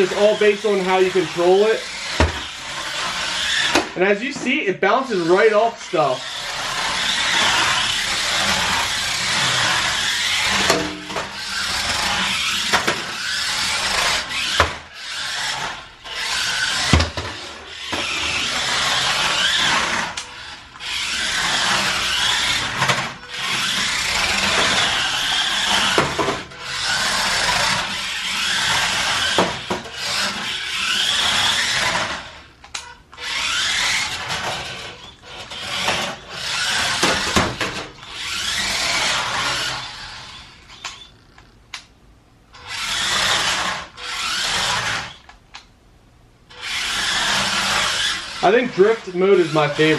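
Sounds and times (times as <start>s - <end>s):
wheels scrubbing across floor: 0.0s - 32.5s, 33.2s - 41.3s, 42.6s - 45.3s, 46.5s - 49.9s
toy car electric motor whirring: 0.0s - 41.9s, 42.5s - 45.7s, 46.5s - 49.9s.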